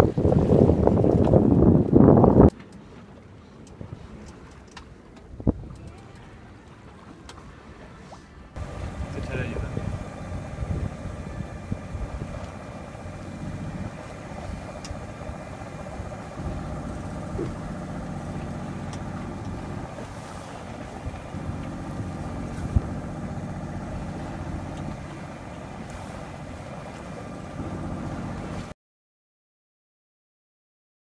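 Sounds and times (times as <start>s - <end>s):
boat engine humming: 0.0s - 28.8s.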